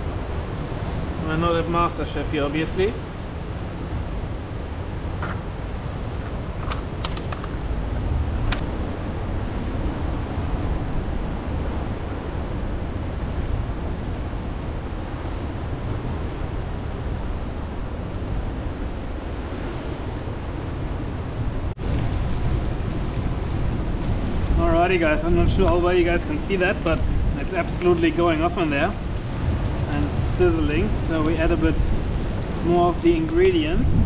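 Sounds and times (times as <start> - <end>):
ocean surf: 0.0 - 34.0
wind: 0.0 - 34.0.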